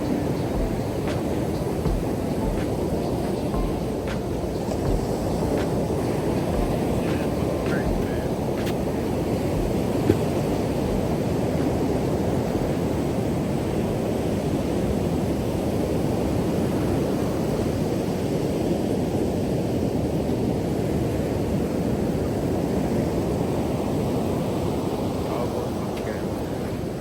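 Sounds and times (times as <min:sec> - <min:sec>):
ocean surf: 0:00.0 - 0:27.0
wind on microphone: 0:00.0 - 0:27.0.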